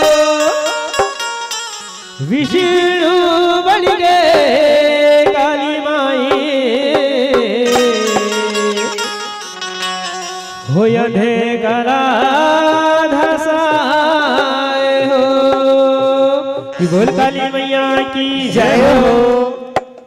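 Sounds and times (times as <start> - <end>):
drum and melodic accompaniment: 0.0 - 20.0
person singing devotional song: 2.2 - 9.3, 10.6 - 20.0.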